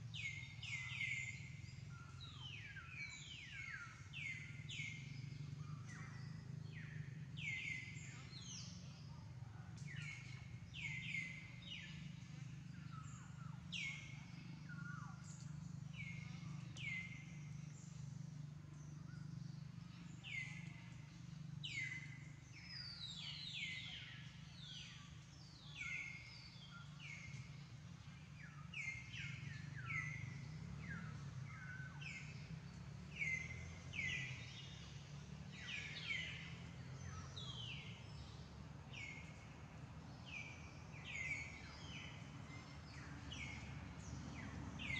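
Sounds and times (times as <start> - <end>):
birds chirping: 0.0 - 44.9
low steady hum: 0.0 - 44.9.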